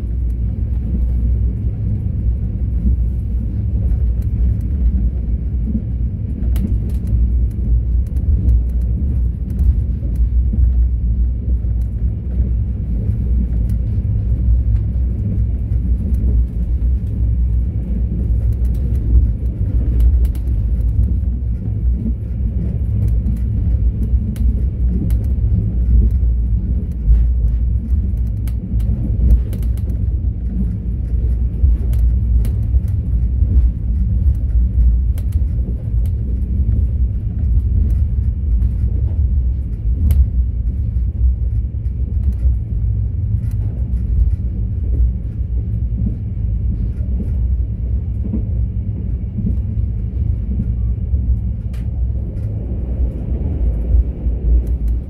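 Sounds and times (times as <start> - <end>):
ticks and rattles: 0.0 - 55.0
train wheels rumbling on rails: 0.0 - 55.0.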